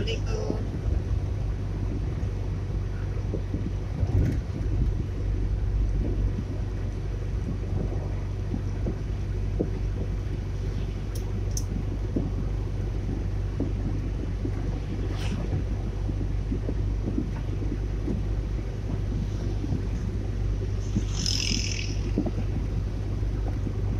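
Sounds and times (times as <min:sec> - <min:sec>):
car engine and tyre rumble: 0:00.0 - 0:23.9.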